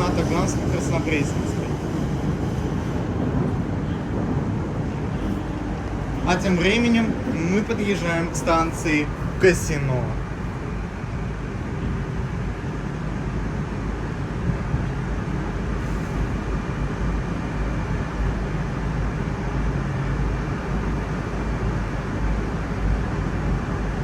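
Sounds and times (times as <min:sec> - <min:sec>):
metro train rumbling: 0:00.0 - 0:24.0.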